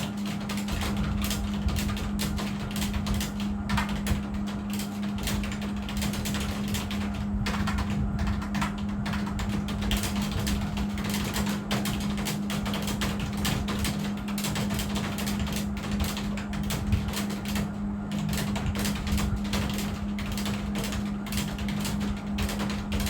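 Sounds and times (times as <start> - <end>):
fast typing on keyboard: 0.0 - 23.0
steady low hum: 0.0 - 23.0.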